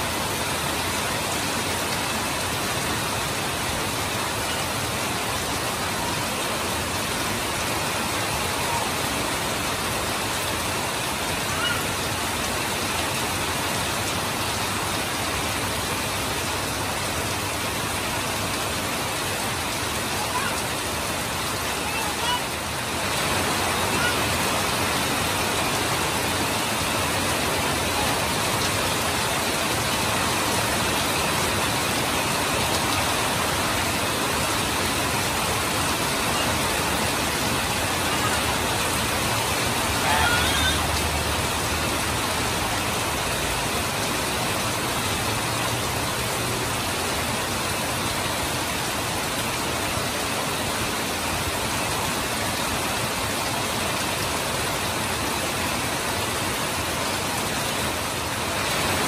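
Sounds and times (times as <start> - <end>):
heavy rain falling: 0.0 - 59.0
water pouring off roof: 0.0 - 59.0.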